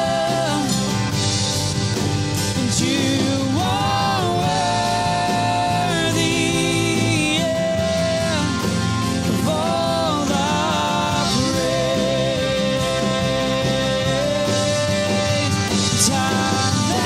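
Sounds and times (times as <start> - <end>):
worship band playing: 0.0 - 17.0.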